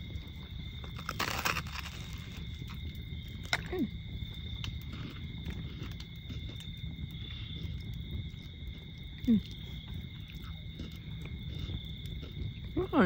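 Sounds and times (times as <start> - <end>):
campfire rumble: 0.0 - 13.0
fire crackles: 0.0 - 13.0.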